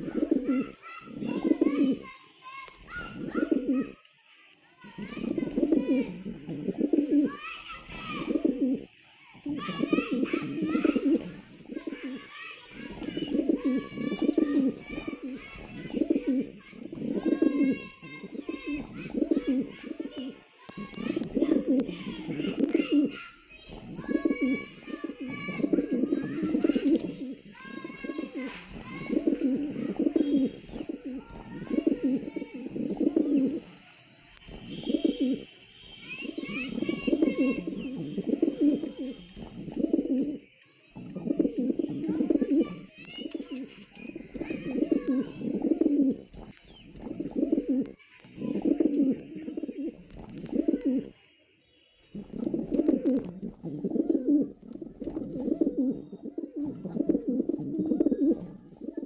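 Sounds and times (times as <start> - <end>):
pigeons cooing: 0.0 - 2.2, 2.9 - 4.0, 4.8 - 51.2, 52.0 - 59.0.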